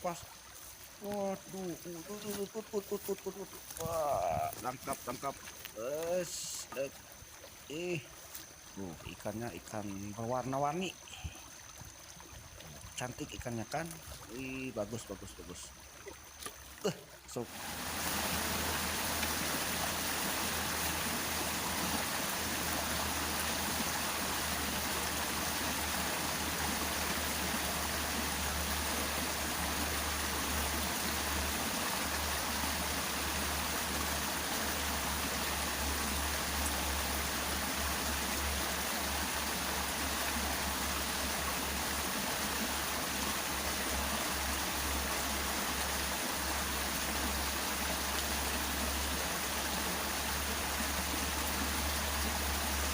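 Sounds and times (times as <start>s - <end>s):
stream water flowing: 0.0s - 52.9s.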